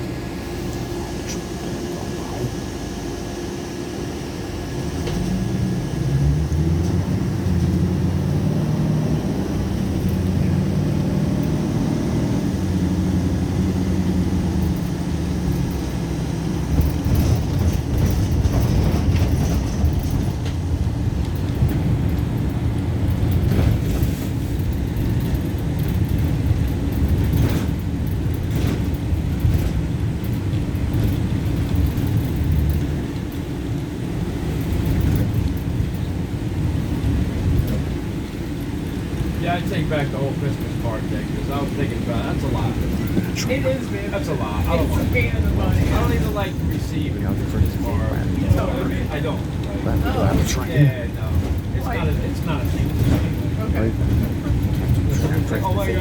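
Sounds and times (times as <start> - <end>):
rough rolling rumble: 0.0 - 56.0
vehicle engine droning: 0.0 - 56.0.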